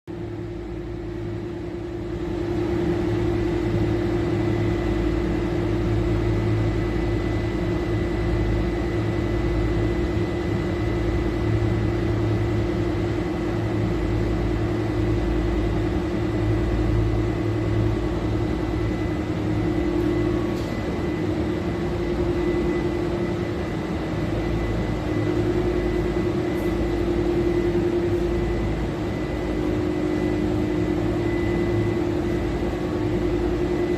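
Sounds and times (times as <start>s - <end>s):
refrigeration machinery humming: 0.1s - 33.9s.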